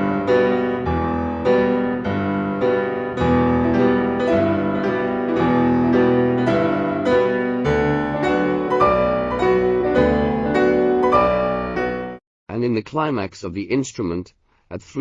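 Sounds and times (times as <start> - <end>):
piano chords: 0.0 - 12.2.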